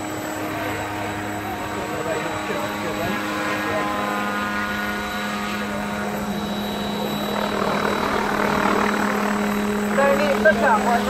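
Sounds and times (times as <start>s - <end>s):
helicopter drone flying past: 0.0s - 11.0s.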